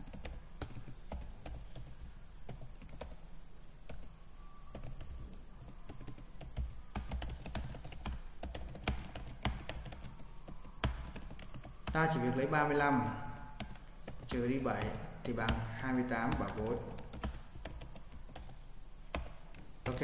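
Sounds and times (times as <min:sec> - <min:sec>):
computer keyboard typing: 0:00.0 - 0:04.1, 0:04.7 - 0:12.2, 0:13.5 - 0:20.0.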